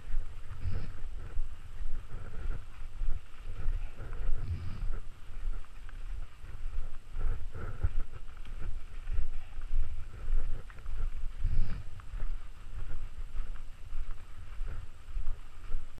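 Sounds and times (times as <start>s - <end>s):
footsteps crunching on snow: 0.0s - 16.0s
low rumbling on microphone: 0.0s - 16.0s.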